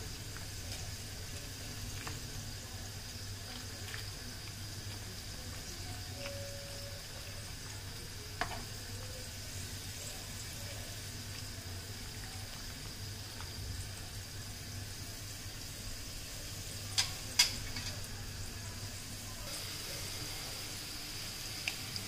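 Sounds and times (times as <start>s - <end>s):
water boiling in a pan: 0.0s - 22.0s.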